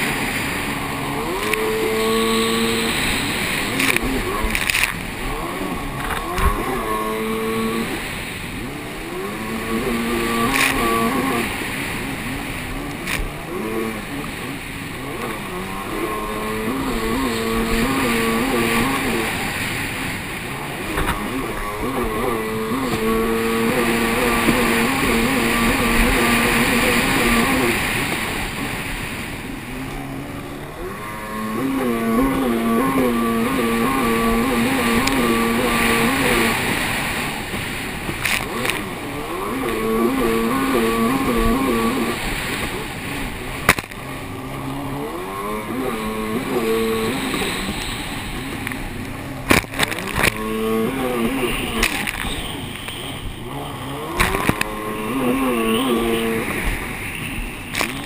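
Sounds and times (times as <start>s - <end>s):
water spray and wind hiss: 0.0s - 29.8s, 31.6s - 58.0s
jet ski engine running hard: 0.0s - 58.0s.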